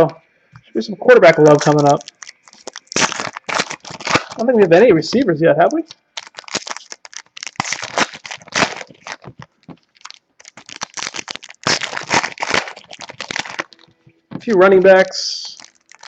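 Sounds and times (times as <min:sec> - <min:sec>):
cards and packaging crinkling: 0:01.4 - 0:04.8, 0:05.6 - 0:16.0.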